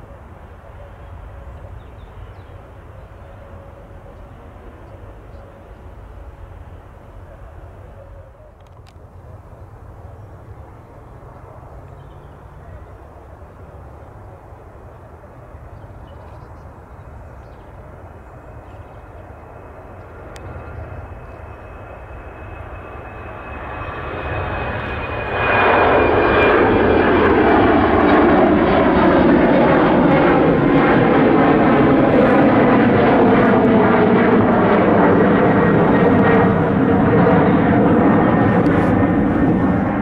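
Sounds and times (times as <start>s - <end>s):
jet engines roaring on takeoff: 0.0s - 40.0s.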